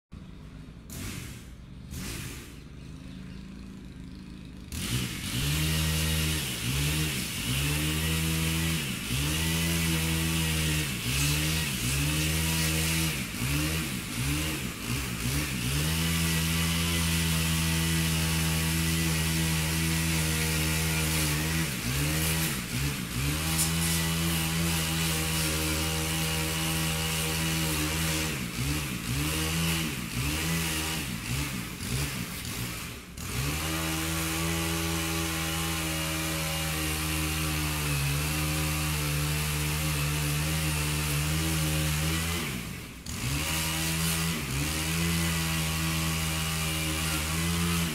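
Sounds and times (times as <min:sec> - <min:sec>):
chainsaw cutting branches: 0:00.8 - 0:02.8, 0:04.5 - 0:47.9.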